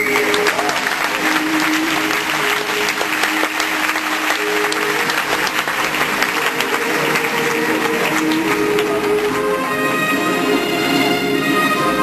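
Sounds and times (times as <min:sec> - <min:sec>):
audience applauding: 0:00.0 - 0:12.0
music with held notes: 0:00.0 - 0:12.0.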